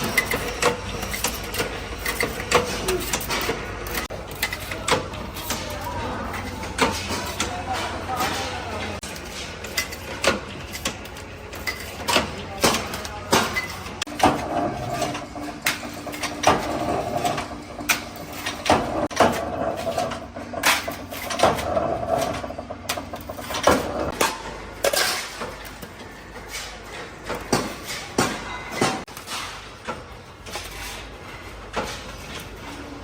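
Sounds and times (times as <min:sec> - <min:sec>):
metal clanks and knocks: 0:00.0 - 0:32.9.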